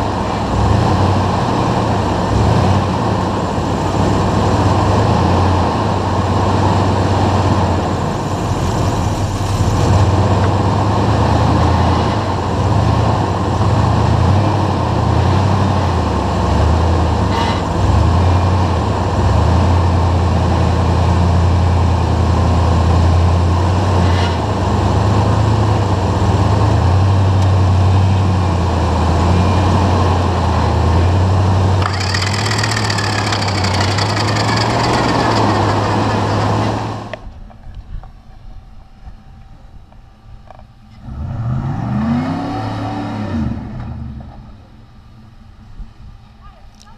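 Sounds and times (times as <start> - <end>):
vehicle engine at low revs: 0.0 - 46.9.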